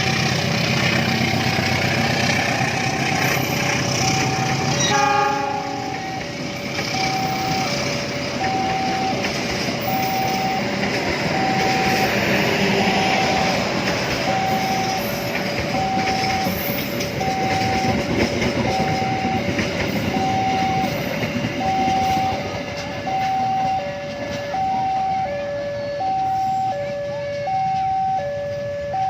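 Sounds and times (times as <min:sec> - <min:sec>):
train wheels on rails: 0:00.0 - 0:29.0
two-tone level crossing alarm: 0:03.1 - 0:29.0.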